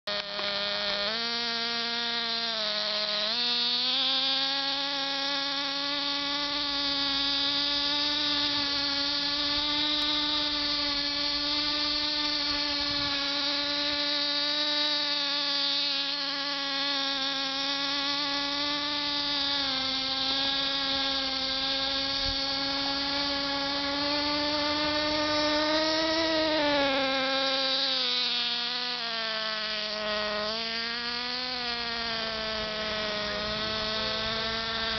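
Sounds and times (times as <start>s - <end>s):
model car engine whining: 0.1s - 34.9s.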